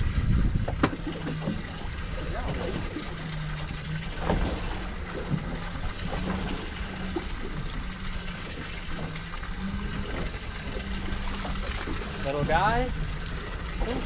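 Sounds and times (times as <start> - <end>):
steady low hum: 0.0 - 14.0
water splashing around boat: 0.0 - 14.0.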